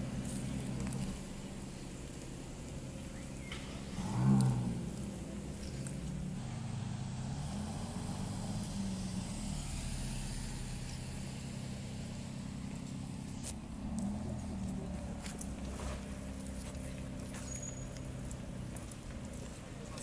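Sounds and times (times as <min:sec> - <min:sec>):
sports car engines rumbling: 0:00.0 - 0:20.0.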